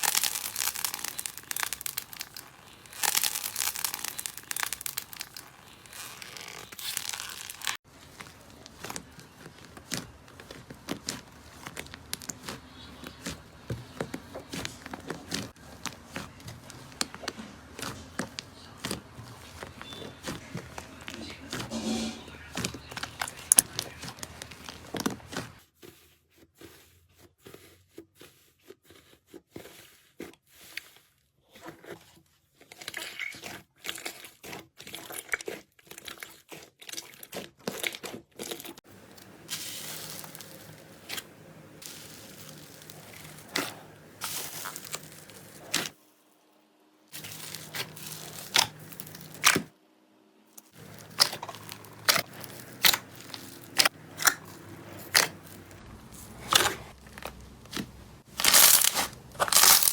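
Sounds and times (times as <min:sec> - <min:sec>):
slime crackling and popping: 0:00.0 - 0:25.6, 0:32.9 - 0:46.0, 0:47.2 - 0:49.7, 0:50.6 - 0:59.9.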